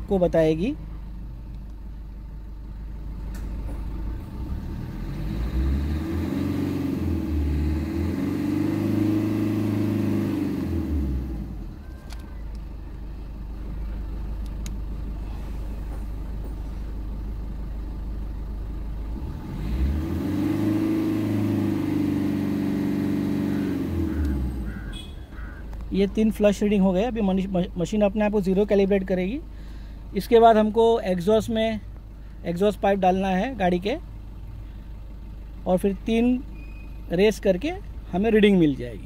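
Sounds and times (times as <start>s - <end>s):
diesel engine revving and idling: 0.0s - 39.0s.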